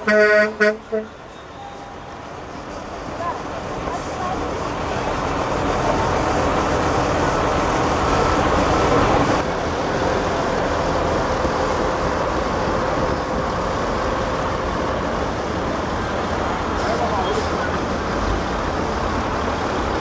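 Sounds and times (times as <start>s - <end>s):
diesel truck engine running: 2.2s - 20.0s.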